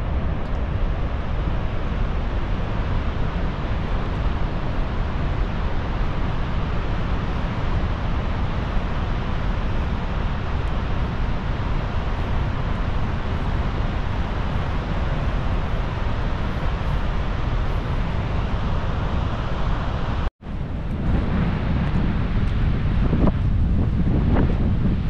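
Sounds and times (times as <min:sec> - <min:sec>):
rushing water roar: 0:00.0 - 0:25.0
wind buffeting microphone: 0:00.0 - 0:25.0.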